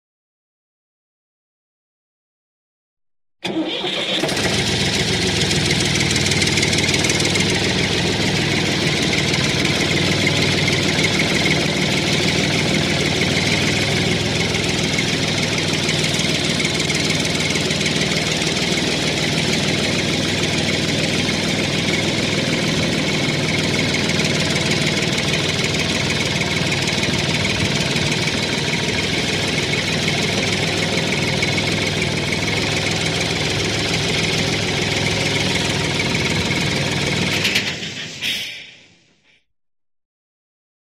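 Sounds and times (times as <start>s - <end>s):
tractor engine idling: 3.4s - 38.7s.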